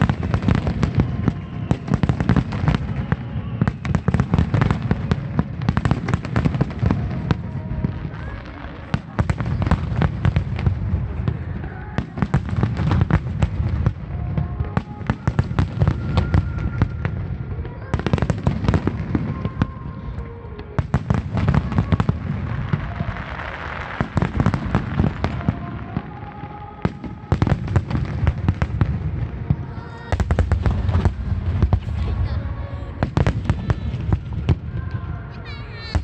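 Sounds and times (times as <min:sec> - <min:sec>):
fireworks crackling and bangs: 0:00.0 - 0:36.0.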